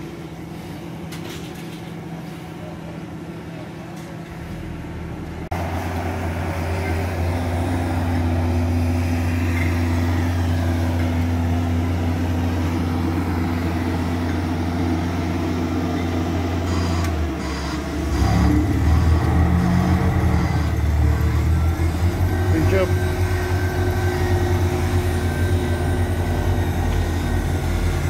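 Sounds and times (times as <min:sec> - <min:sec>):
asphalt roller engine running: 0:00.0 - 0:28.0.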